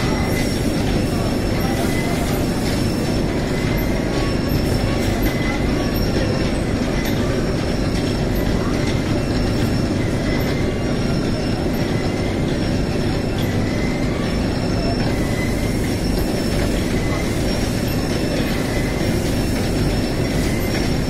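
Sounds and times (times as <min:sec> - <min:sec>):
conveyor motor hum and belt rumble: 0:00.0 - 0:21.0.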